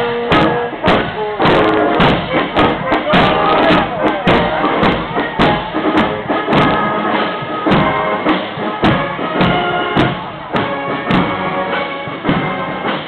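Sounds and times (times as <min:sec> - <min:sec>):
brass instruments playing a tune: 0:00.0 - 0:13.0
steady drum beat: 0:00.0 - 0:13.0.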